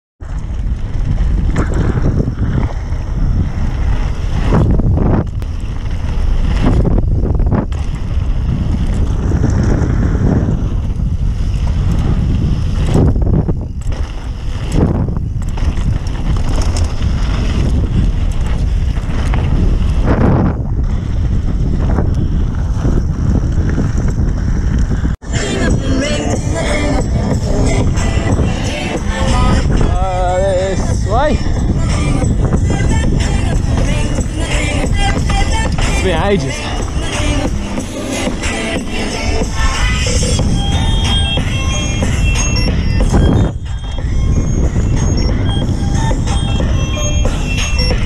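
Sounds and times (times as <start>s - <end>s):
bike tyres rumbling over dirt: 0.2s - 48.0s
wind buffeting microphone: 0.2s - 48.0s.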